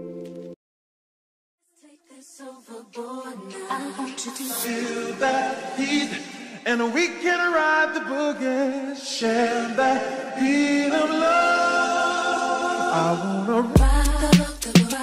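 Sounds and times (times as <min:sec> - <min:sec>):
person singing a capella: 0:01.8 - 0:15.0.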